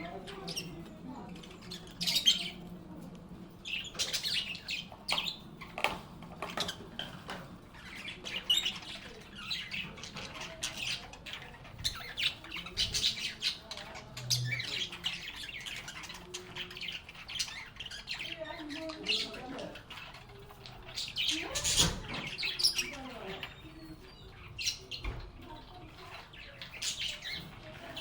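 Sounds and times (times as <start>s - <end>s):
lovebirds chattering: 0.0s - 28.0s.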